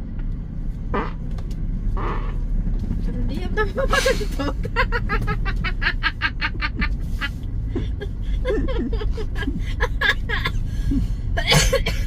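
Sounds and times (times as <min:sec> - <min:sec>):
car driving low rumble: 0:00.0 - 0:12.0.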